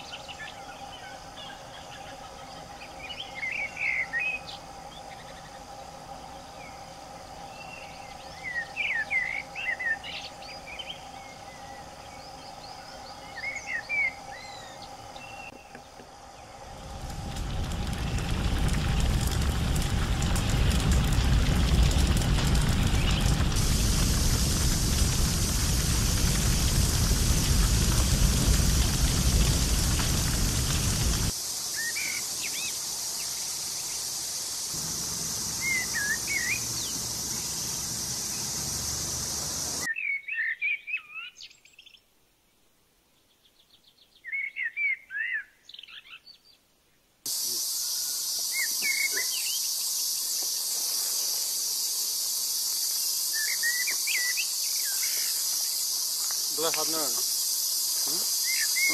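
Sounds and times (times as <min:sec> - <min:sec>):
birds chirping: 0:00.0 - 0:34.1, 0:34.7 - 0:42.1, 0:47.3 - 0:58.9
insect drone: 0:00.0 - 0:40.0, 0:47.3 - 0:58.9.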